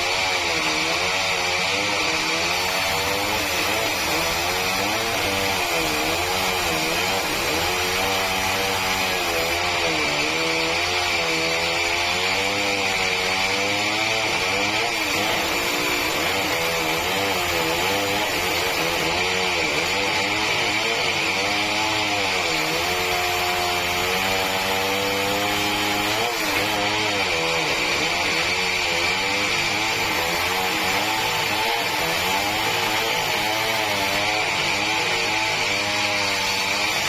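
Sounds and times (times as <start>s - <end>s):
sawmill motor running: 0.0s - 37.0s.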